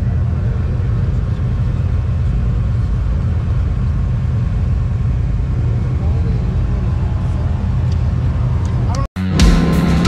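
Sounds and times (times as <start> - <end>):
utv engines idling: 0.0 - 10.0.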